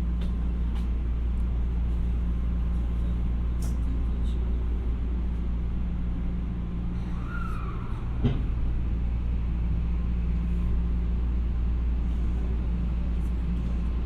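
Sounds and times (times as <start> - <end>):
train car hum and rumble: 0.0 - 14.0.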